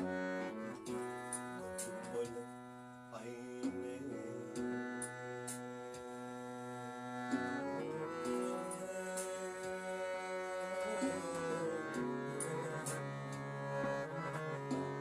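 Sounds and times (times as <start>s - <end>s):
harmonium melody: 0.0s - 15.0s.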